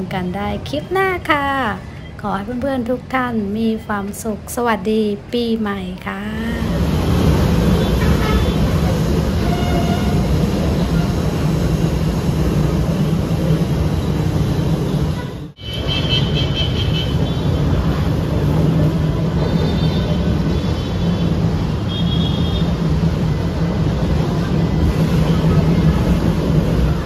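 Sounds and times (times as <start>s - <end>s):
city traffic rumble: 0.0s - 27.0s
trains running past: 0.0s - 27.0s.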